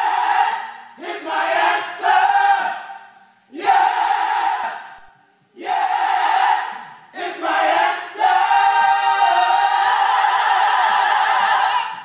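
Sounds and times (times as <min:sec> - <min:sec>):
church choir singing: 0:00.0 - 0:12.0.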